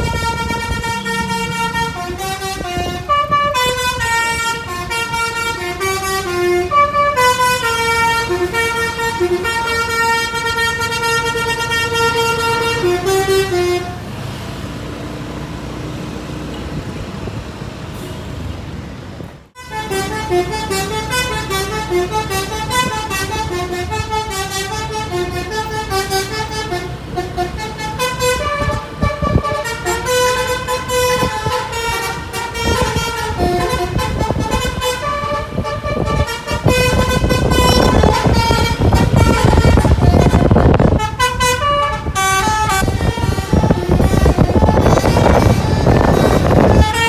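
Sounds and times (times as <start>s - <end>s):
bus horn playing a tune: 0.0s - 14.3s, 19.6s - 47.0s
engine and road noise: 0.0s - 47.0s.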